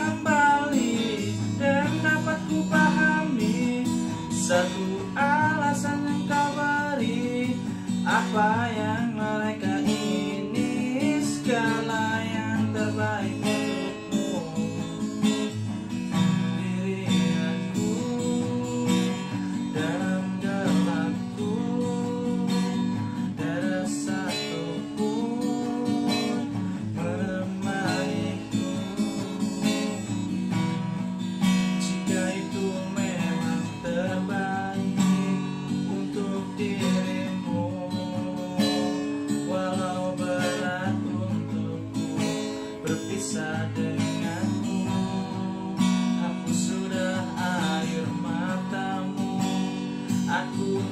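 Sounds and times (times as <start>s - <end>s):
acoustic guitar strumming chords: 0.0s - 50.9s.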